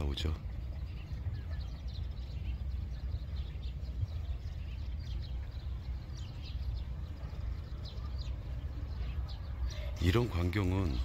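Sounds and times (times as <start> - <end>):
magpies calling: 0.0 - 11.0
steady low rumble: 0.0 - 11.0.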